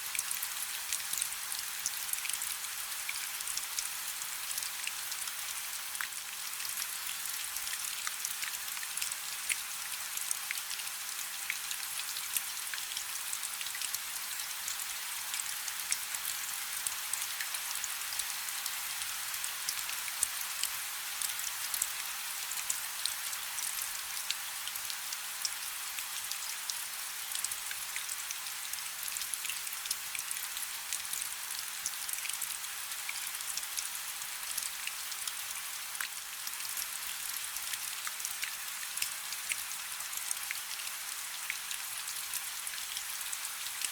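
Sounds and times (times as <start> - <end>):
rain falling on river surface: 0.0 - 43.9.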